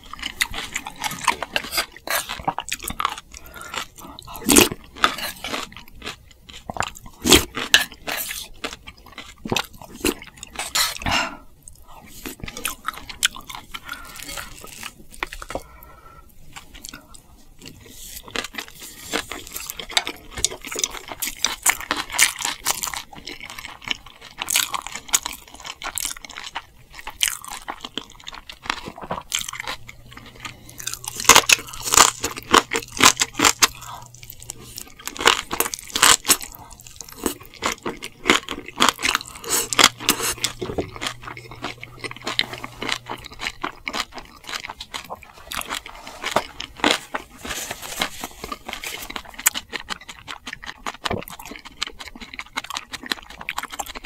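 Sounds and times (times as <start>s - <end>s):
chewing crunchy food: 0.0s - 54.0s.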